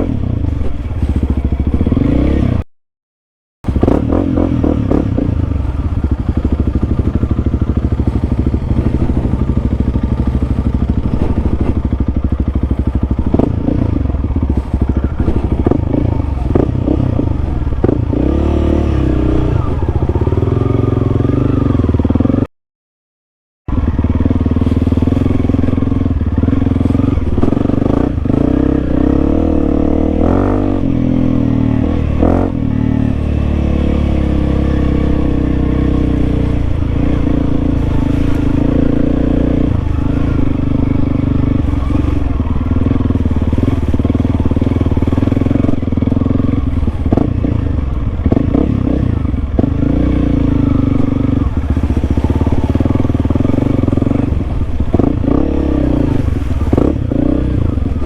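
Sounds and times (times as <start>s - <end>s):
motorcycle engine running: 0.0s - 2.6s, 3.6s - 22.5s, 23.7s - 58.0s.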